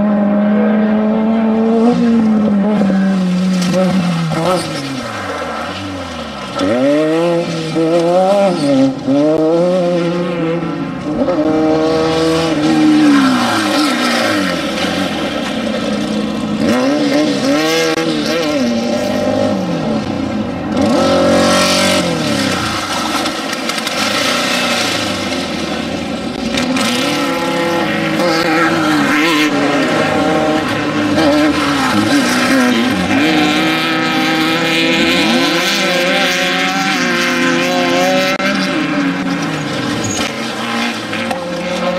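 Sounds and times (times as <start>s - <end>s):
race vehicle engines revving: 0.0s - 41.9s.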